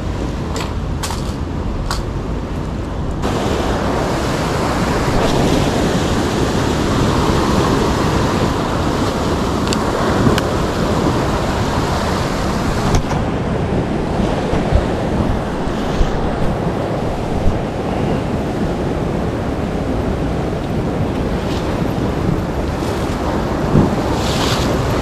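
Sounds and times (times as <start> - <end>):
ocean surf: 0.0 - 25.0
wind buffeting microphone: 0.0 - 25.0.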